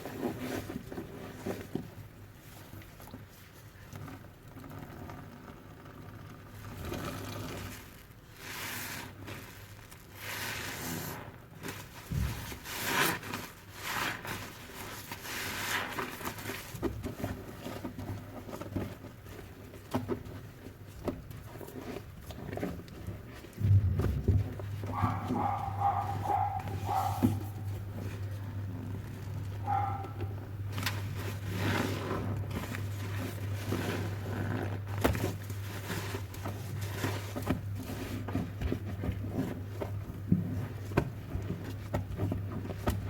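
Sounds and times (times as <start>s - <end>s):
soapy sponge squelching: 0.0s - 4.8s, 6.6s - 43.0s.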